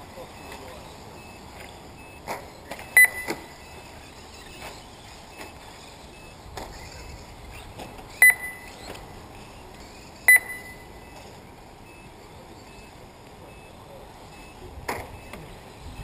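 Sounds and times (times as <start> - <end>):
steady background noise: 0.0 - 16.0
short electronic beeps: 0.2 - 16.0.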